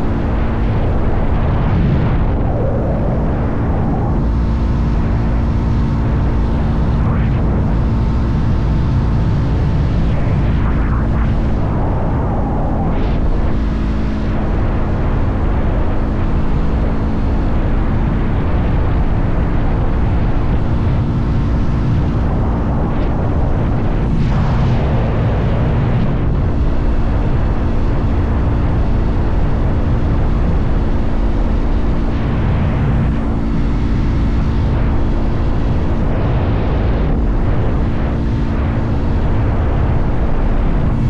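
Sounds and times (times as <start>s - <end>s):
wind rush on microphone: 0.0s - 41.0s.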